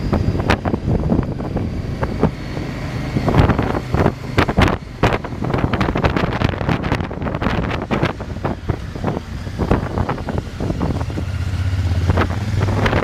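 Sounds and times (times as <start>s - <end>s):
motorcycle engine: 0.0s - 13.0s
wind buffeting on microphone: 0.0s - 13.0s.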